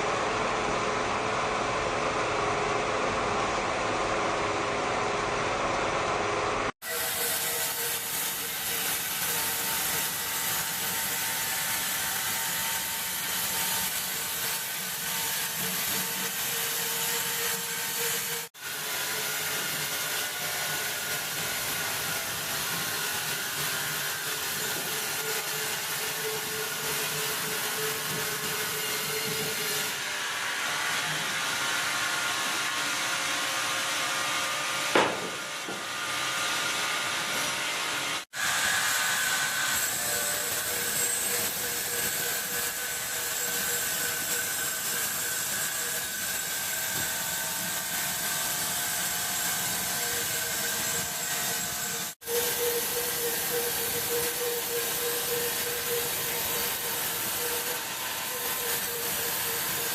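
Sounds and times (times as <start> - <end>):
saw cutting through log: 6.8 - 59.9.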